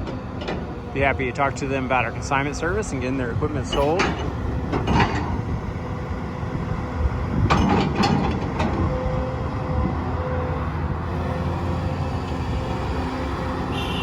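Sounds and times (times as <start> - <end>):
excavator running: 0.0 - 14.0.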